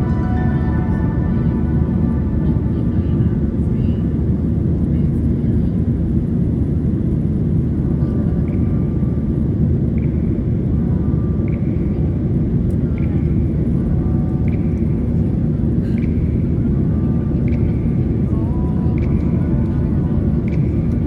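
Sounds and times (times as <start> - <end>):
jet engines and airflow rumble: 0.0 - 21.0.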